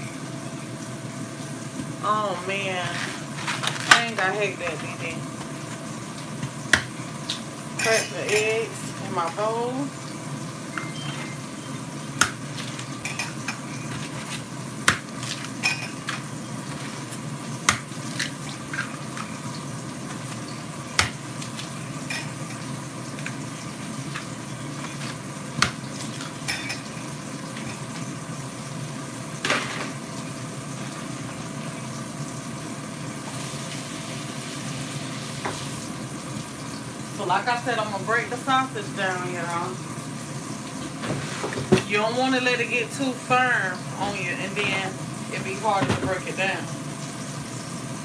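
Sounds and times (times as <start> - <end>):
sausages sizzling in a skillet: 0.0 - 48.0.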